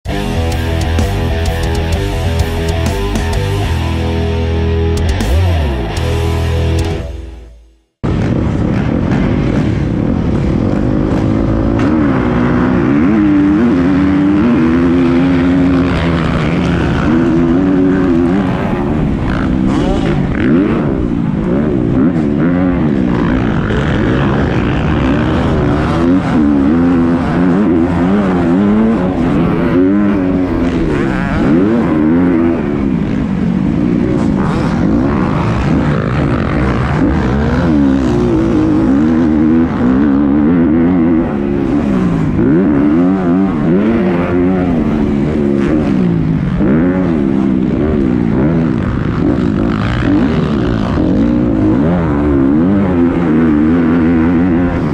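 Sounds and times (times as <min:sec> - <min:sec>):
motocross bike engine revving: 0:00.1 - 0:54.9.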